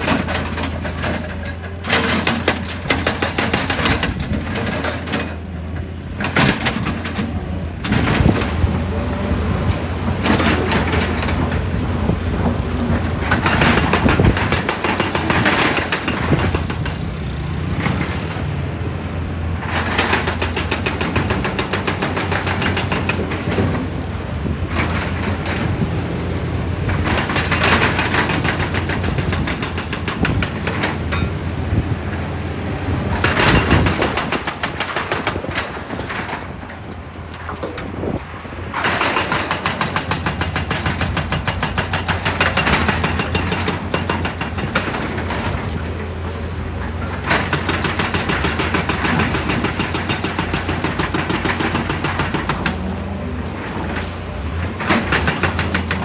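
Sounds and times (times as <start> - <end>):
hydraulic breaker hammering rock: 0.0 - 32.2, 33.1 - 56.0
heavy diesel engine: 0.0 - 56.0.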